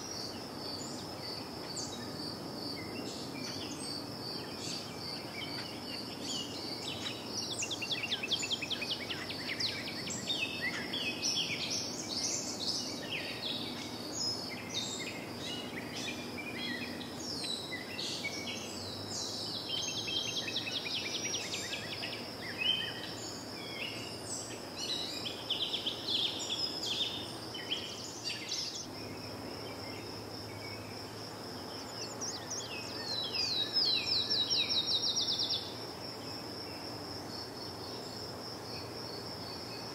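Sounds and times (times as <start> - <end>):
insect trill: 0.0 - 39.9
songbirds chirping: 0.0 - 39.9.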